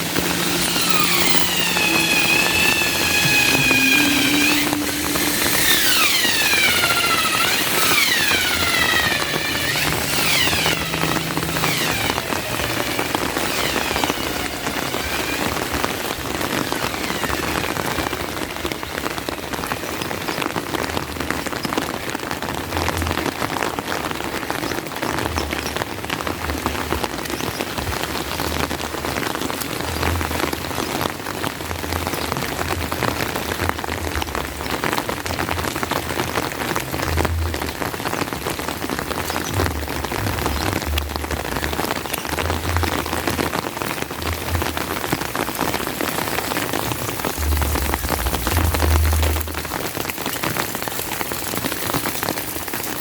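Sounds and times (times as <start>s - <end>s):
rain falling on surfaces: 0.0s - 53.0s.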